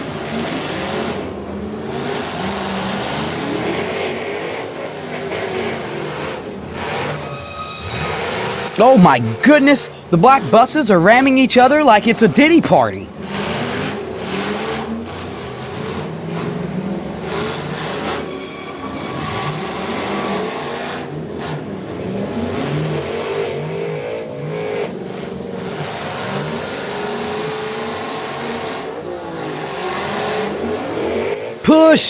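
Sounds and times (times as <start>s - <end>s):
bus engines revving: 0.0s - 32.0s
engine and arena noise: 0.0s - 32.0s.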